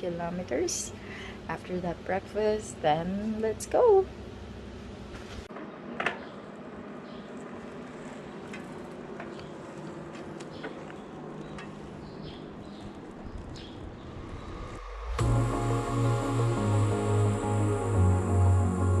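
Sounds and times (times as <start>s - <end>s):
background ambience: 0.0s - 19.0s.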